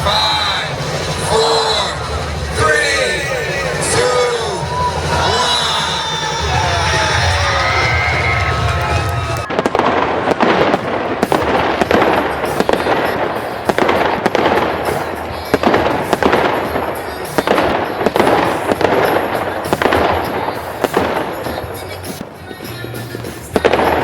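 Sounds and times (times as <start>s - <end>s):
fireworks banging and crackling: 0.0s - 24.0s.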